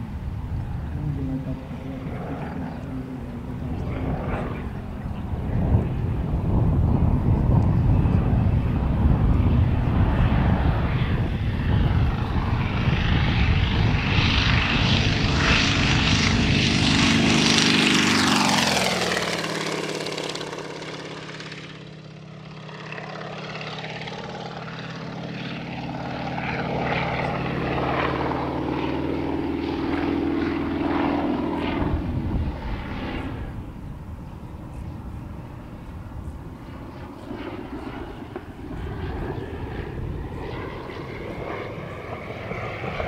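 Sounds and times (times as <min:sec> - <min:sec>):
propeller plane engine: 0:00.0 - 0:43.0.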